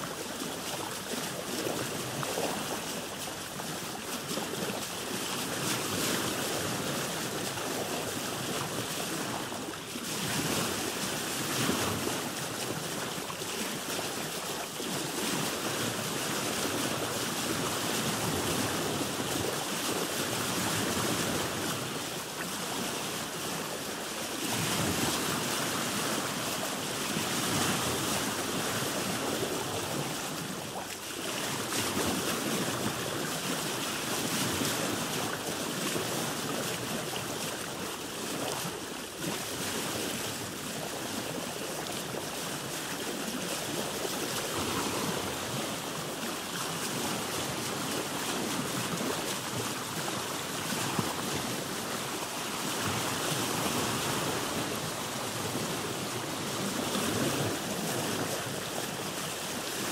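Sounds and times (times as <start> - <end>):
water lapping against boat hull: 0.0 - 59.9
wind: 0.0 - 59.9.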